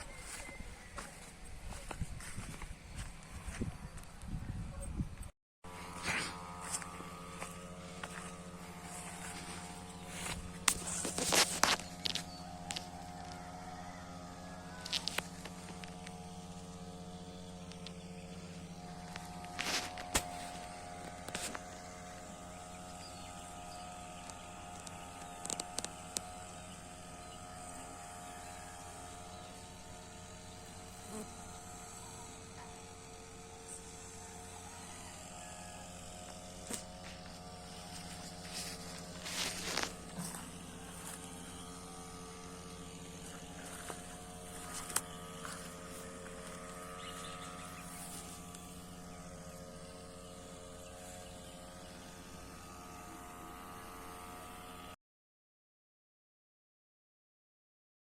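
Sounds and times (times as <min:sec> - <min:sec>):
buzzing hum: 0:00.0 - 0:55.0.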